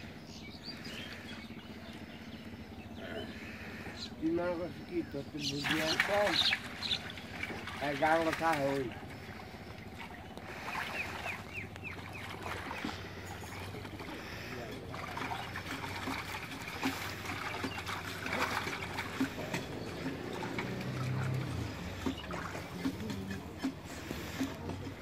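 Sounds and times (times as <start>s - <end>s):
low hum: 0.0s - 25.0s
water splashing and trickling: 3.4s - 25.0s.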